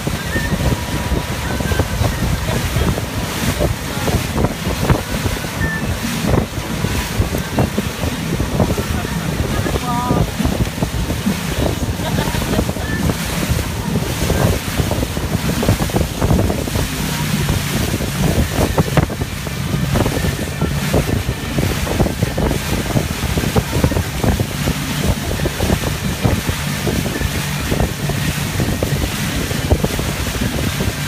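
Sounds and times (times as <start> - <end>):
boat motor droning: 0.0 - 31.0
churning wake rushing: 0.0 - 31.0
wind buffeting microphone: 0.0 - 31.0.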